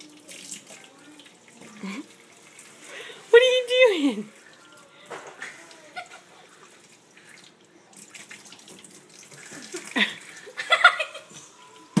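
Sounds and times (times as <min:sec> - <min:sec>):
faucet water splashing into sink: 0:00.0 - 0:11.2.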